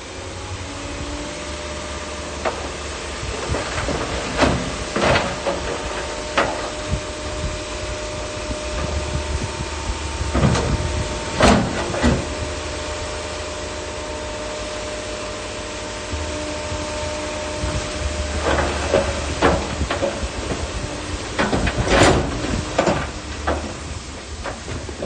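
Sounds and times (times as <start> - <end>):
bulldozer diesel engine running: 0.0 - 25.0
steel tracks clanking on stone: 2.2 - 13.7, 16.2 - 25.0.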